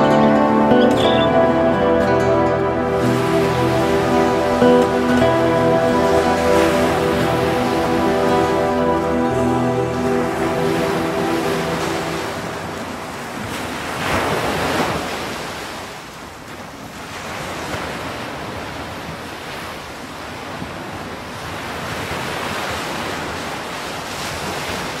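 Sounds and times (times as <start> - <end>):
ocean waves washing: 0.0 - 25.0.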